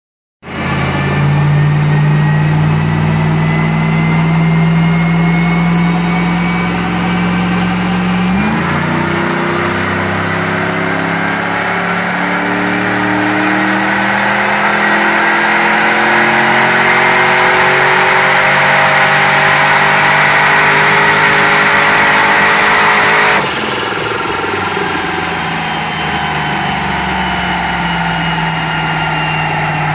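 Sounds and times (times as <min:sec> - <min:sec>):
pickup engine revving on dyno: 0:00.5 - 0:29.9.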